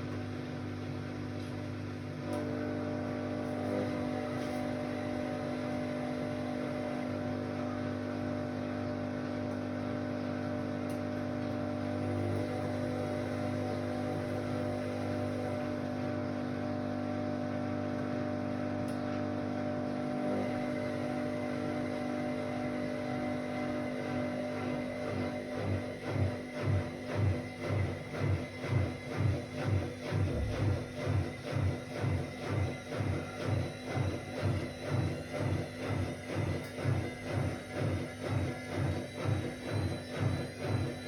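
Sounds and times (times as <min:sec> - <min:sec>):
washing machine motor humming: 0:00.0 - 0:41.0.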